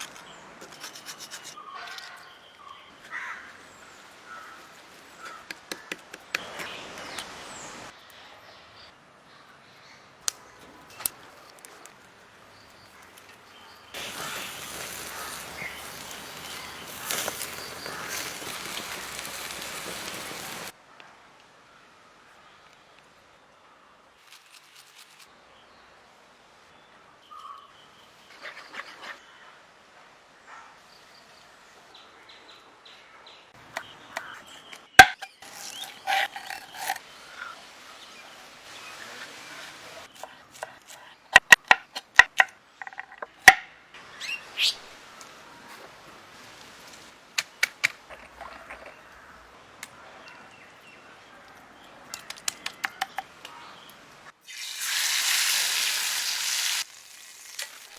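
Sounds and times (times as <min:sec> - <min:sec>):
faint birdsong: 0:00.0 - 0:20.7, 0:21.6 - 0:46.2, 0:47.4 - 0:54.4.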